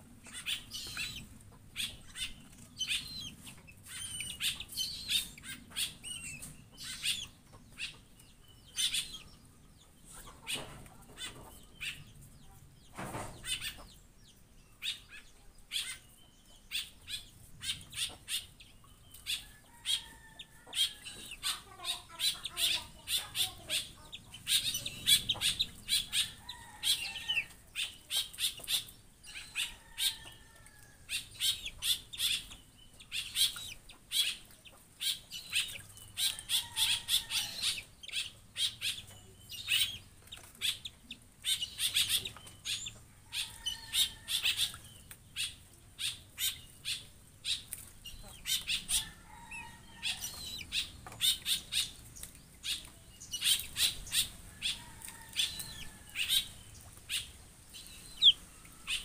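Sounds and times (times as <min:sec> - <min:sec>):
drawn-out bird calls: 0:00.0 - 0:12.1, 0:14.8 - 0:59.0
birds calling: 0:00.0 - 0:59.0.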